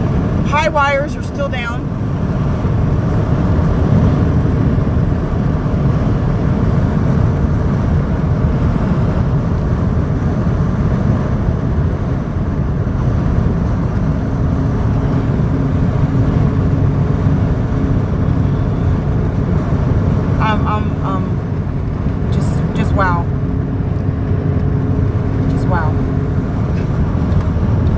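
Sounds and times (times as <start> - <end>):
car interior road noise: 0.0 - 27.9.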